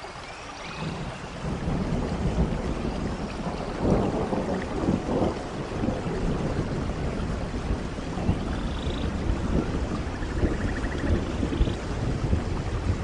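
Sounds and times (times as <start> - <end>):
steady rainfall: 0.0 - 13.0
thunder rumbling: 0.8 - 13.0.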